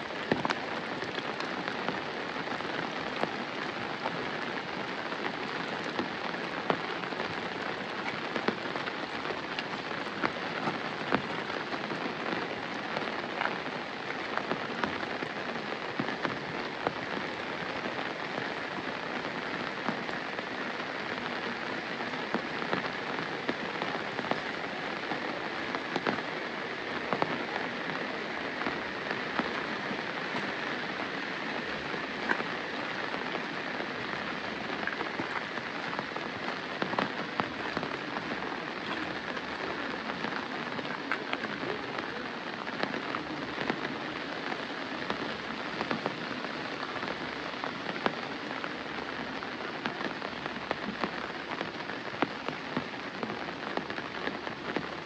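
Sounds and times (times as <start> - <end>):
raindrops tapping on umbrella: 0.0 - 55.0
steady rain: 0.0 - 55.0.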